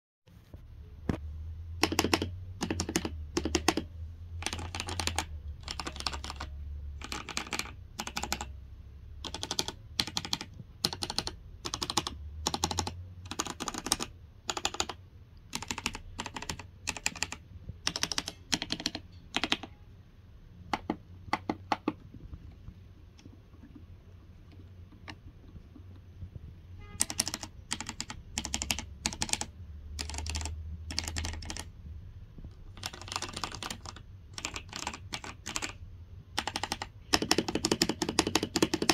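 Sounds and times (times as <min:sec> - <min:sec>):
mechanical keyboard typing: 0:01.8 - 0:08.6, 0:09.2 - 0:19.8, 0:20.7 - 0:22.1, 0:24.4 - 0:26.0, 0:27.0 - 0:31.7, 0:32.4 - 0:38.9.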